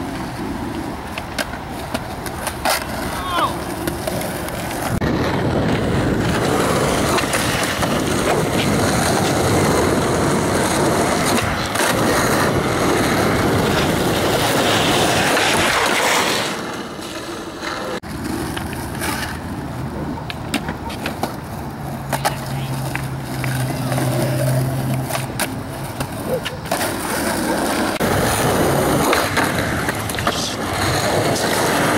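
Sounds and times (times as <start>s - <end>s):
skateboard clacks: 0.0s - 31.9s
skateboard wheels rolling: 0.0s - 31.9s.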